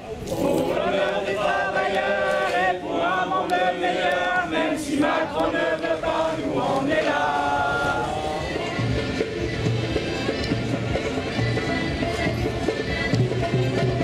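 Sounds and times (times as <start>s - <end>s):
crowd singing in unison: 0.0s - 14.0s.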